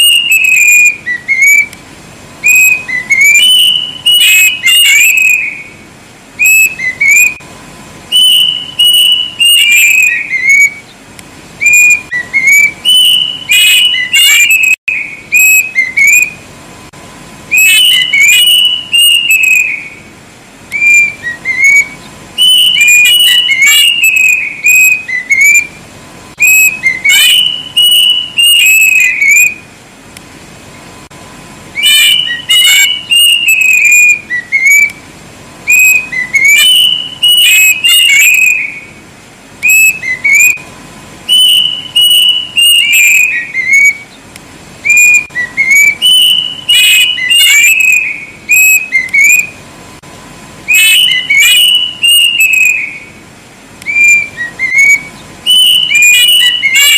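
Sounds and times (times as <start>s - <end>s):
cuckoo whistling: 0.0s - 1.8s, 2.4s - 5.8s, 6.4s - 7.4s, 8.1s - 11.0s, 11.6s - 16.5s, 17.5s - 20.1s, 20.7s - 25.8s, 26.4s - 29.7s, 31.7s - 35.0s, 35.6s - 39.0s, 39.6s - 40.6s, 41.3s - 44.2s, 44.8s - 49.6s, 50.7s - 53.2s, 53.8s - 56.9s.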